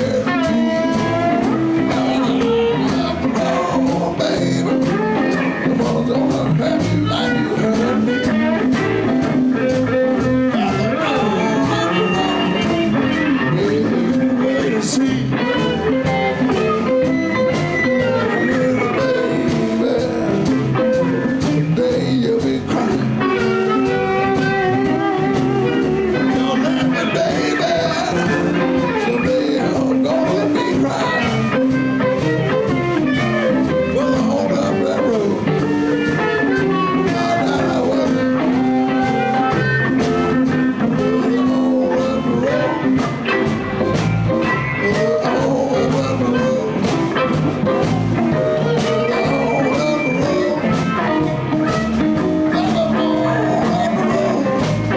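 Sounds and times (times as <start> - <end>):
bass and drums steady beat: 0.0 - 54.9
blues guitar: 0.0 - 54.9.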